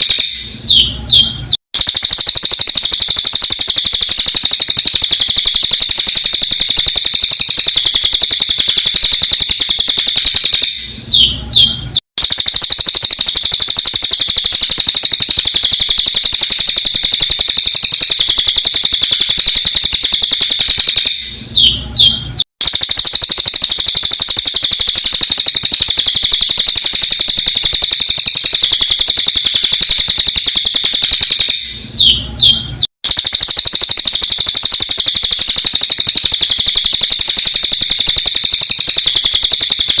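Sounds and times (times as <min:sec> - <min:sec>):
fast high bird chirps: 0:00.0 - 0:40.0.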